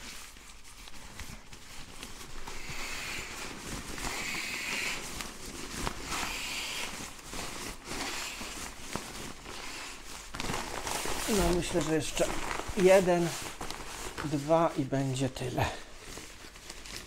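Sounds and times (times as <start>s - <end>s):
nylon sack crinkling and rustling: 0.0s - 17.0s.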